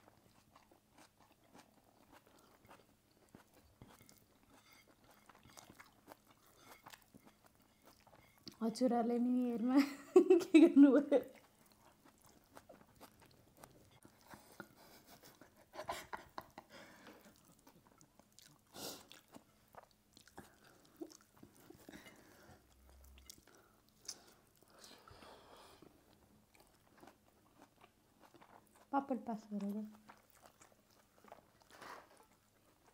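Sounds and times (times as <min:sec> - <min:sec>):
chewing and crunching food: 0:00.0 - 0:09.7, 0:11.2 - 0:32.9.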